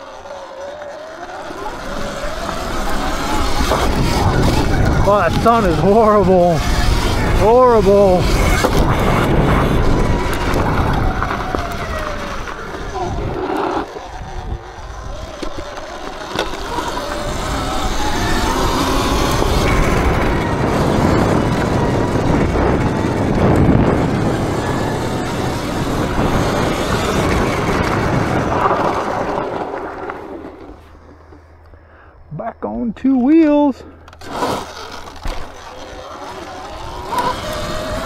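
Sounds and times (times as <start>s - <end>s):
faint electric motor whine: 0.0s - 38.0s
wind and riding noise: 0.0s - 38.0s.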